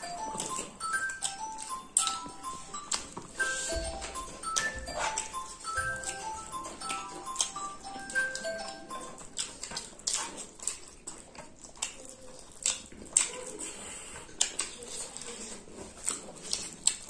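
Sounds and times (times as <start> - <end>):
people chewing and lip smacking: 0.0 - 17.0.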